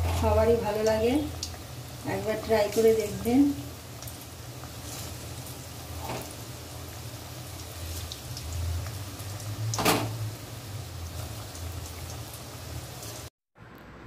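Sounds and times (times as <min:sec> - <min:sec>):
food deep-frying in oil: 0:00.0 - 0:13.3.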